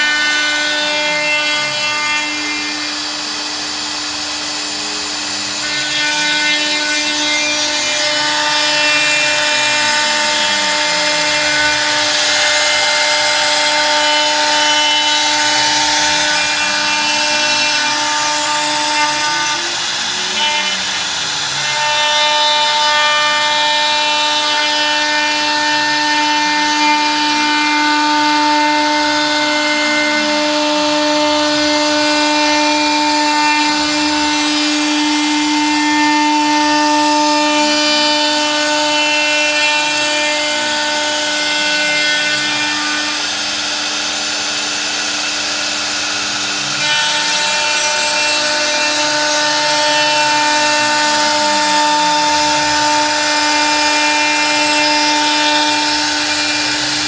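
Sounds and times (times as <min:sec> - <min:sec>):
cutter hissing through wood: 0:00.0 - 0:57.0
router spindle whine: 0:00.0 - 0:57.0.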